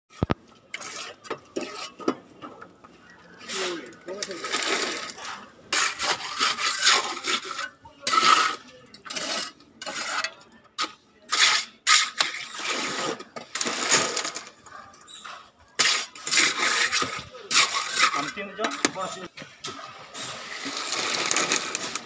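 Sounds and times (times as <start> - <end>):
trowel scraping wet concrete: 0.2 - 2.2, 3.3 - 14.5, 15.1 - 22.0.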